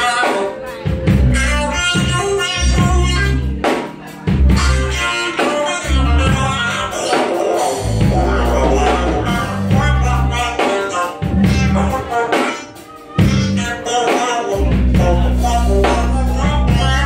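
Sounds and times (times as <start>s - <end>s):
live band playing: 0.0s - 17.0s
heavy bass notes: 0.8s - 17.0s.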